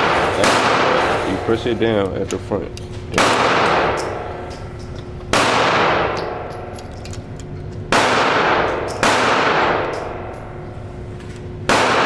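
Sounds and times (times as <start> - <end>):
echoing indoor gunshots: 0.0 - 1.7, 3.0 - 10.8, 11.5 - 12.0.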